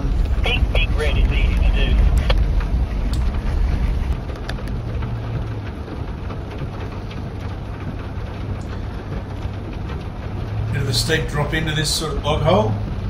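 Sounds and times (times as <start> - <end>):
low engine rumble: 0.0 - 13.0
rain on car roof: 0.0 - 13.0.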